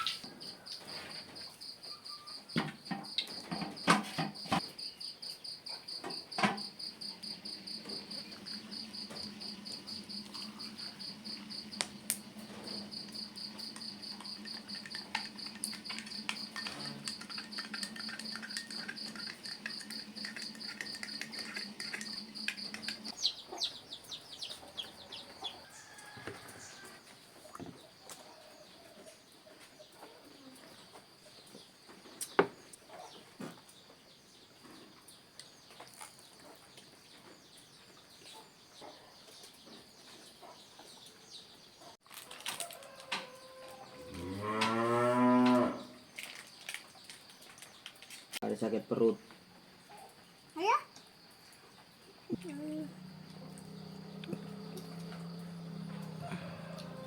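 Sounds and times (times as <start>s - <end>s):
crickets chirring: 0.0s - 41.4s, 42.1s - 57.0s.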